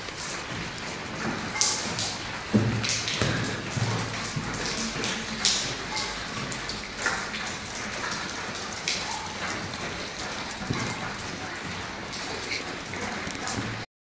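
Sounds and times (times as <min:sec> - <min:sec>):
water dripping on flooded floor: 0:00.0 - 0:13.9.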